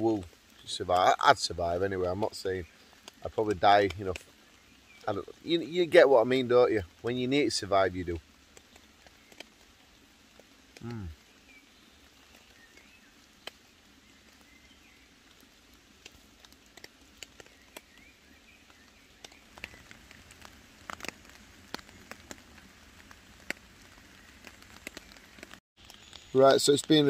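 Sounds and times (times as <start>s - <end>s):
raindrops dripping on leaves: 0.0s - 27.0s.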